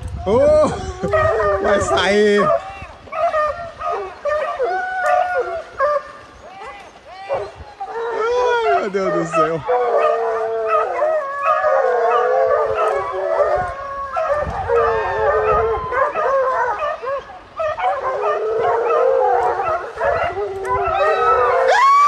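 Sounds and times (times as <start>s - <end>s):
hounds baying and howling: 0.1s - 22.0s.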